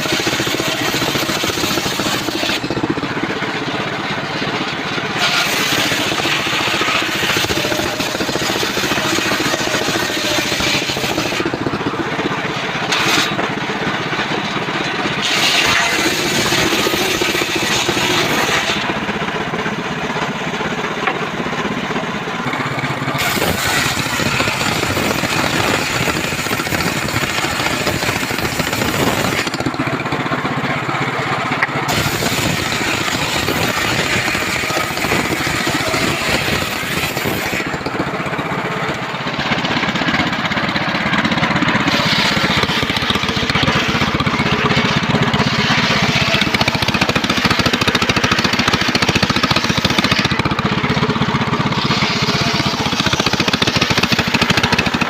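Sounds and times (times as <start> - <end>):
sawmill engine sawing wood: 0.0 - 55.0.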